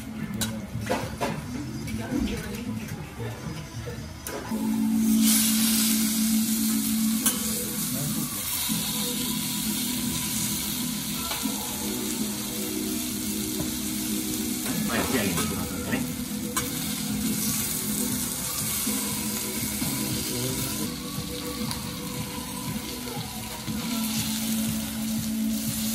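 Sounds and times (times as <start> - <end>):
beef sizzling on griddle: 4.6 - 25.9.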